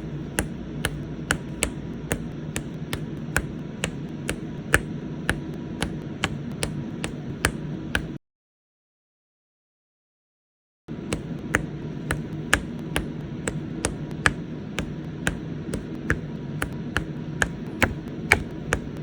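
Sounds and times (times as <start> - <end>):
steady low hum: 0.0 - 8.2, 10.9 - 19.0.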